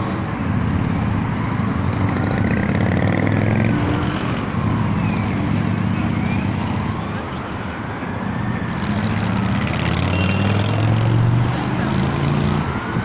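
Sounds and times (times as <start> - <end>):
road traffic engines: 0.0 - 13.0.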